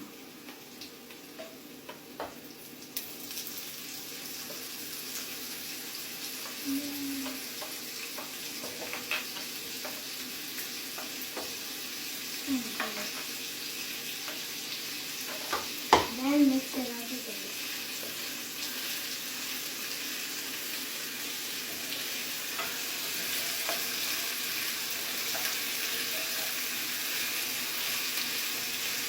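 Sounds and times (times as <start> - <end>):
ham sizzling in a pan: 0.0 - 29.0.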